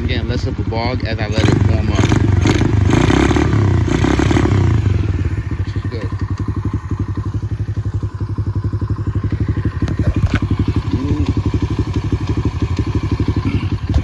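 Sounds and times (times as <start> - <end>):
pit bike engine idling: 0.0 - 14.0.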